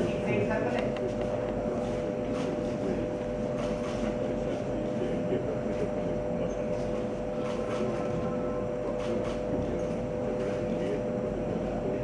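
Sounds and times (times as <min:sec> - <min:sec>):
mechanical room hum: 0:00.0 - 0:12.0.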